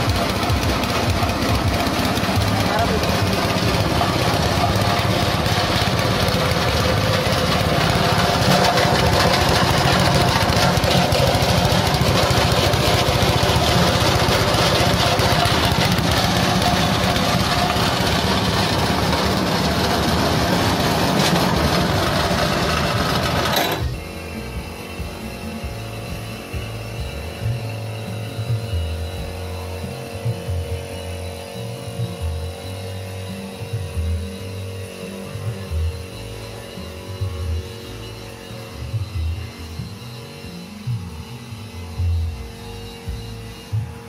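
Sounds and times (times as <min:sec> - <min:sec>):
engine-driven husk grinder shredding: 0:00.0 - 0:44.0.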